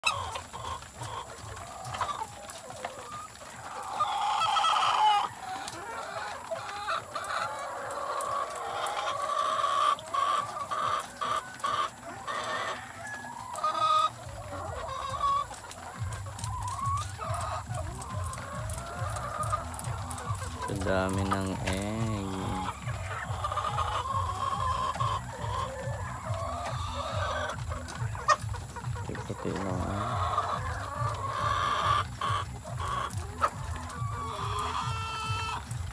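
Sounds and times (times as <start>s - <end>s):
hens clucking: 0.0s - 35.9s.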